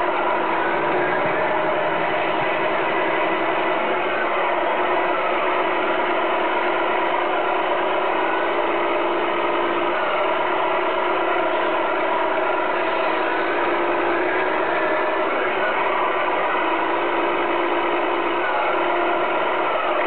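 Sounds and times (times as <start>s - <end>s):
toy truck engine idling: 0.0s - 20.0s.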